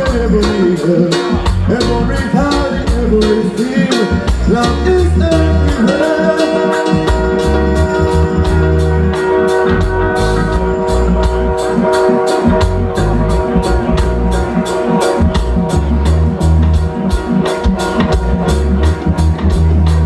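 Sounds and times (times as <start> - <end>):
reggae band playing: 0.0 - 20.0
sustained keyboard chords: 0.0 - 20.0.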